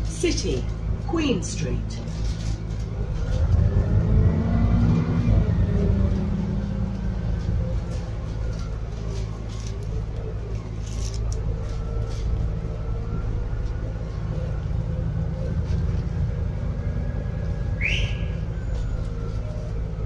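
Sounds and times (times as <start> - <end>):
bus engine rumble from inside: 0.0 - 20.0
drivetrain whine: 0.0 - 20.0.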